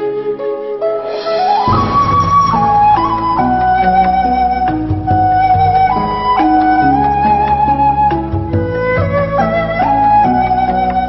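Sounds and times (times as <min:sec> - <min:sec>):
bamboo flute melody: 0:00.0 - 0:11.0
lower accompaniment: 0:00.0 - 0:11.0.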